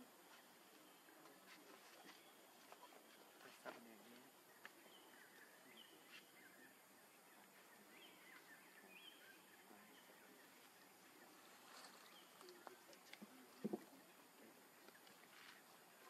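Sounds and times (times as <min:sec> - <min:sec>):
faint bird chirps: 0:00.0 - 0:16.0
low background hiss: 0:00.0 - 0:16.0.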